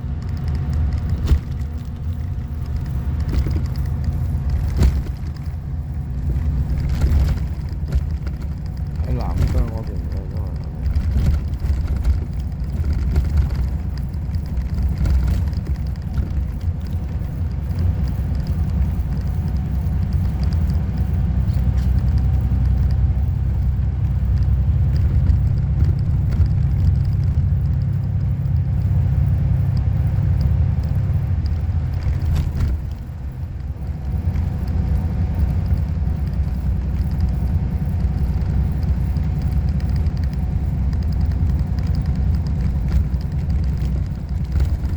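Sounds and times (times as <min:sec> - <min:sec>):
vehicle engine rumbling: 0:00.0 - 0:44.9.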